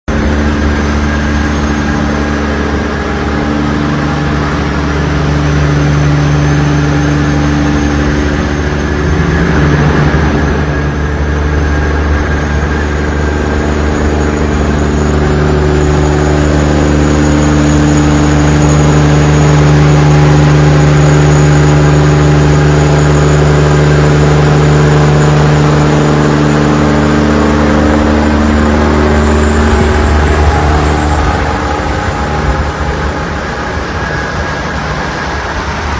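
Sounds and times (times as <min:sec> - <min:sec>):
truck engine drone: 0:00.0 - 0:35.9
tyre and road noise: 0:00.1 - 0:35.9.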